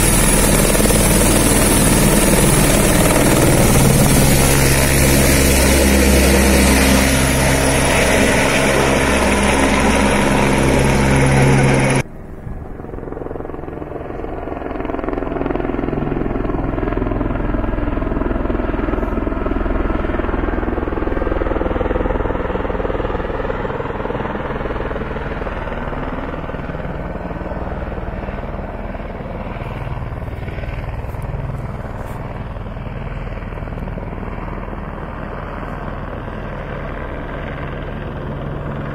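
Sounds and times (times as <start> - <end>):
distant helicopter rotor: 0.0 - 38.9
helicopter hovering overhead: 0.0 - 38.9.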